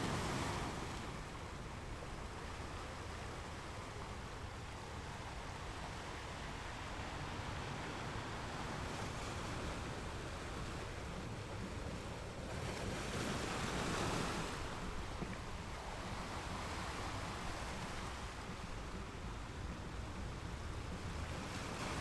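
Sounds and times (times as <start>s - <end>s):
waves breaking on a beach: 0.0s - 22.0s.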